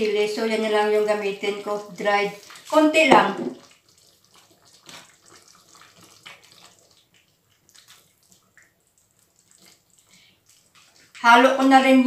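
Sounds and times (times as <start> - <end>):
soup bubbling and popping: 0.0 - 12.0
ladle stirring soup: 1.0 - 11.7.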